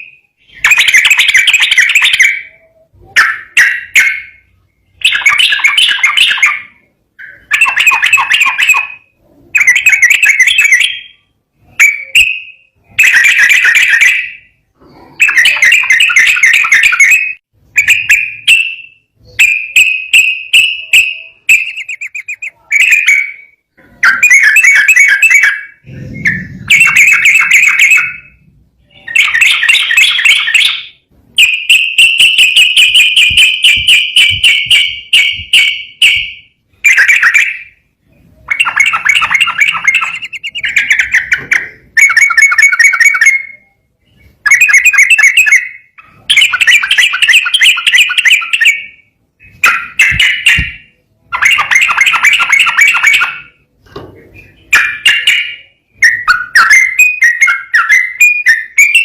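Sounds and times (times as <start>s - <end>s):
bird rapid trill: 0.0s - 53.6s, 54.4s - 59.0s
bulbul chattering song: 0.0s - 59.0s.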